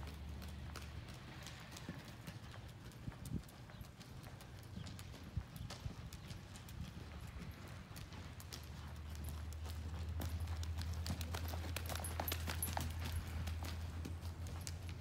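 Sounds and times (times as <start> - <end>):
horse hoofbeats on soft dirt: 0.0 - 15.0.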